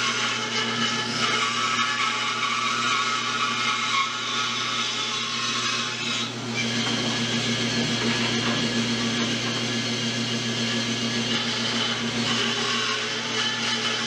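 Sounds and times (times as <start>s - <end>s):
band saw cutting wood: 0.0s - 14.0s.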